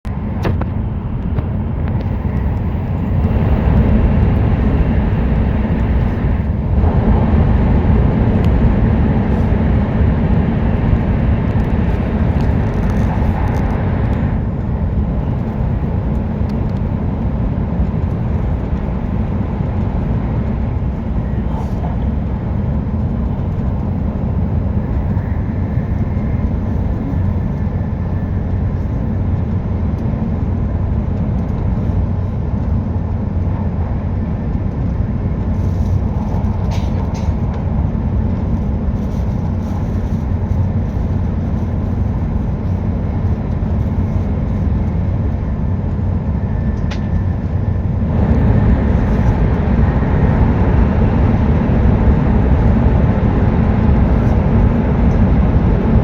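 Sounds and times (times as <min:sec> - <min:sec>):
train rumble inside cabin: 0:00.0 - 0:56.0.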